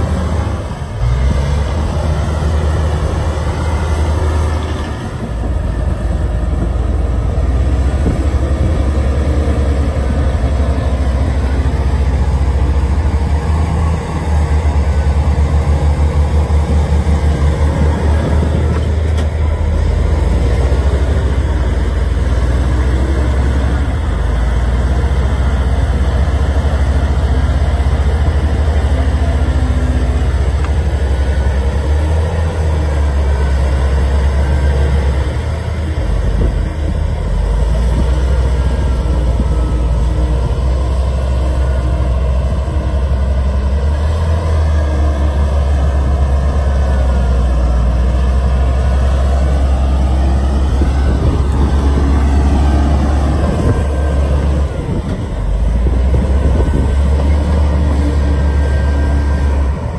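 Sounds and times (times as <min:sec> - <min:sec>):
bulldozer diesel engines droning: 0:00.0 - 0:59.9.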